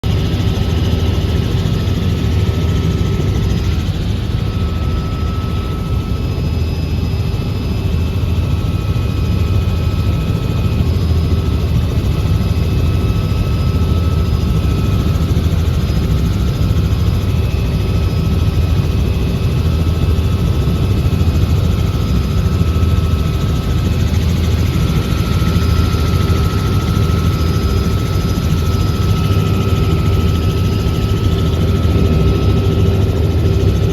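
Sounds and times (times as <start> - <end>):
helicopter rotor and engine noise: 0.0 - 33.9.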